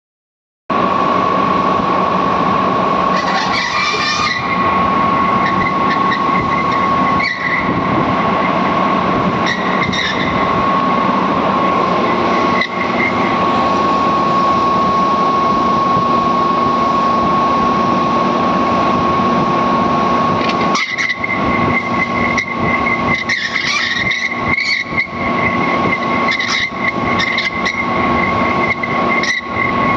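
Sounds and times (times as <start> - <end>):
higher machine whine: 0.7 - 29.9
machining centre whining: 0.7 - 29.9.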